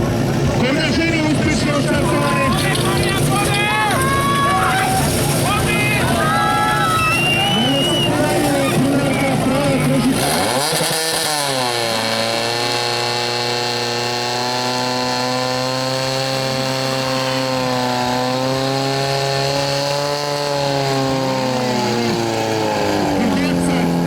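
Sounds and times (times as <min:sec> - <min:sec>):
pump engine revving: 0:00.0 - 0:24.0.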